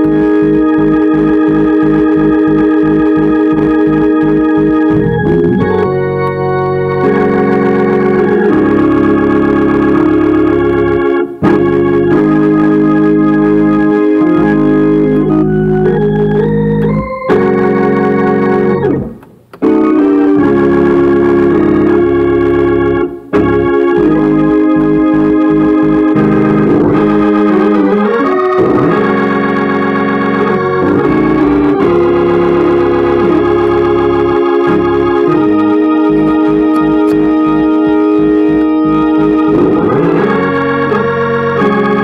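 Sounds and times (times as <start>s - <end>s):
organ playing gospel chords: 0.0s - 42.0s.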